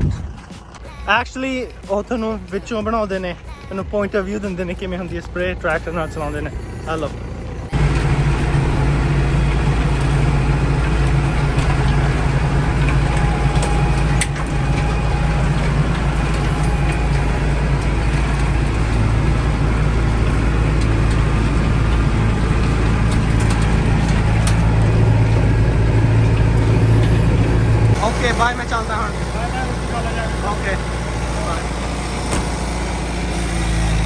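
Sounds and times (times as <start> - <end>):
constant rushing noise: 0.0 - 34.0
tractor engine running: 0.0 - 34.0.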